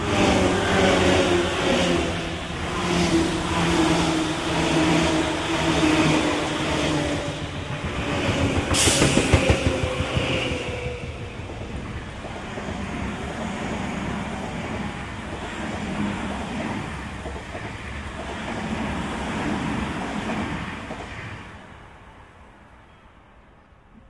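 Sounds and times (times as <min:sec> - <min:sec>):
rumble of train wheels on rails: 0:00.0 - 0:22.5.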